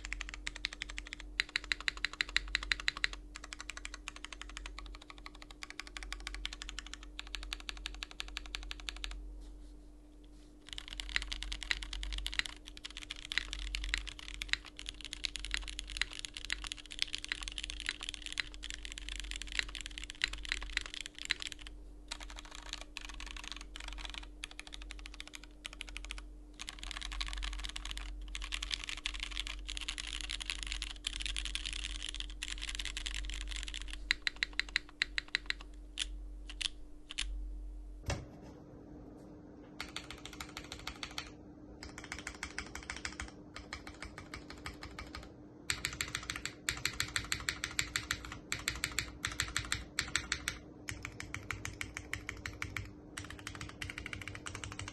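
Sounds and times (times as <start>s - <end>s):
mechanical keyboard typing: 0.0s - 9.2s, 10.7s - 37.3s, 39.8s - 54.9s.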